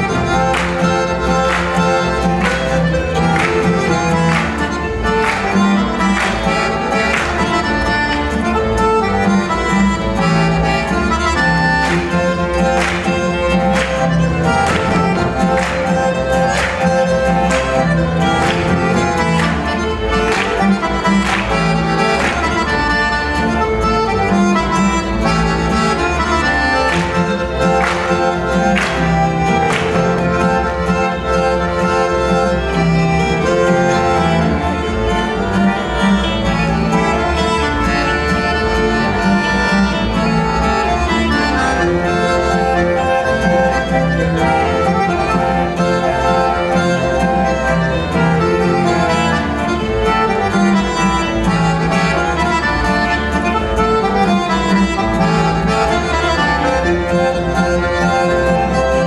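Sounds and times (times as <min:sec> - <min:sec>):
accordion: 0:00.0 - 0:59.0
fiddle: 0:00.0 - 0:59.0
folk dance music: 0:00.0 - 0:59.0.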